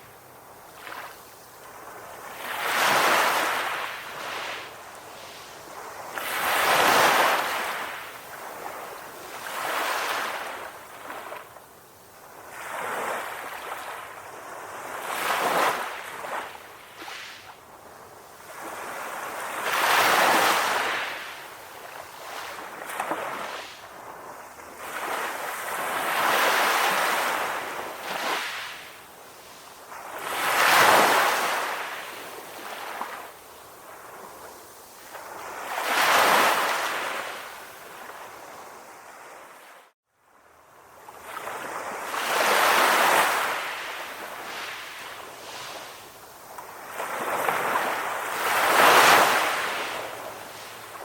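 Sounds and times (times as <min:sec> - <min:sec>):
ocean waves breaking on shore: 0:00.0 - 0:51.0.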